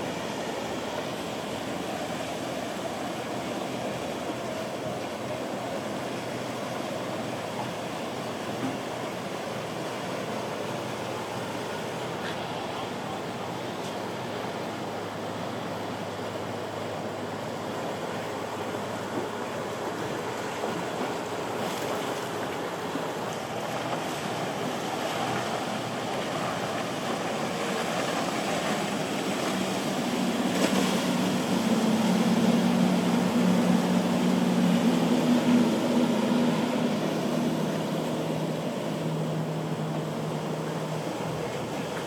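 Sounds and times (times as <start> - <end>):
boat engine passing: 0.0 - 42.0
surf: 0.0 - 42.0
wind: 0.0 - 42.0.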